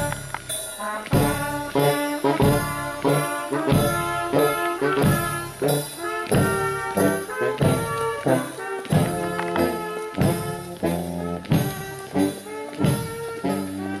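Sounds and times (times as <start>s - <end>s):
brass band playing a march: 0.0s - 14.0s.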